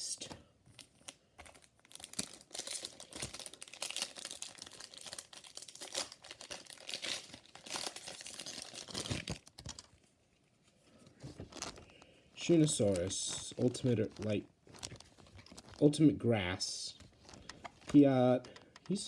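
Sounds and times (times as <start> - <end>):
foil wrapper crinkling and tearing: 0.8 - 9.9, 11.3 - 16.0, 16.9 - 19.0.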